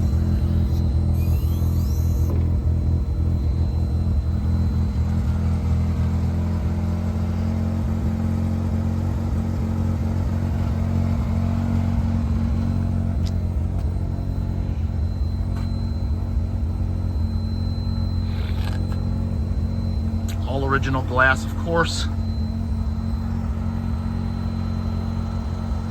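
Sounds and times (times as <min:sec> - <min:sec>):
rotary engine idling: 0:00.0 - 0:25.9.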